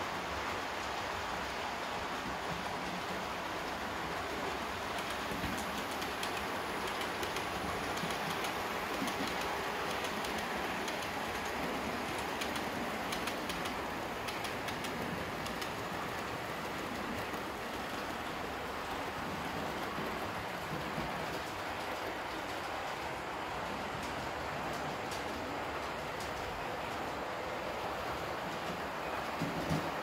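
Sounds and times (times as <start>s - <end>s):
model train wheels rumbling on rails: 0.0s - 30.0s
rail joint clicks: 2.2s - 30.0s.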